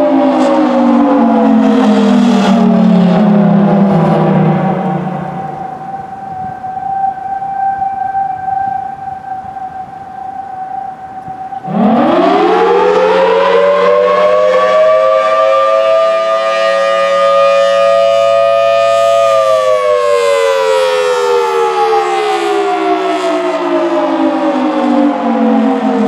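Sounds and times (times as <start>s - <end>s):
rotating tornado siren: 0.0s - 26.0s.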